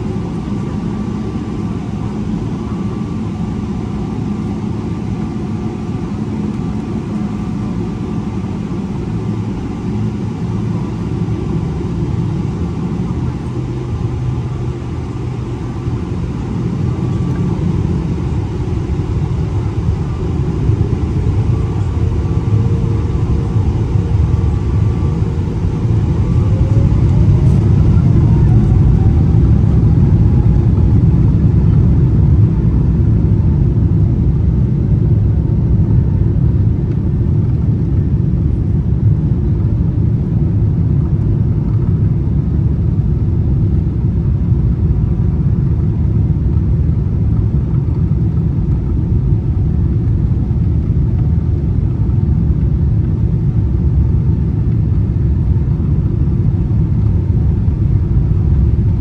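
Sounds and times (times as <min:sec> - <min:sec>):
jet engine rumble inside cabin: 0:00.0 - 0:59.0.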